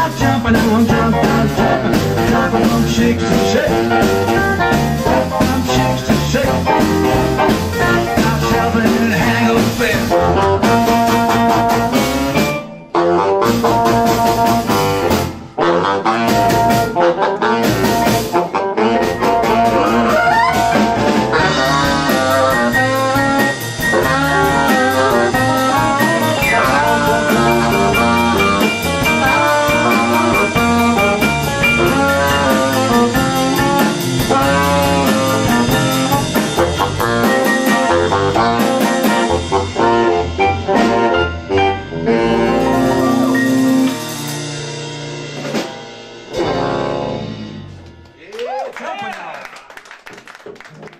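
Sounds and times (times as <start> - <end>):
saxophone lead: 0.0 - 44.8, 46.3 - 48.0
drum kit: 0.0 - 48.2
electric guitar: 0.0 - 48.2
upright bass: 0.0 - 48.2.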